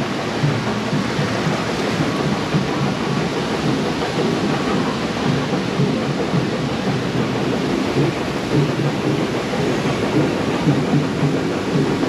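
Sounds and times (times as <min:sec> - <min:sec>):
water rushing and churning: 0:00.0 - 0:12.0.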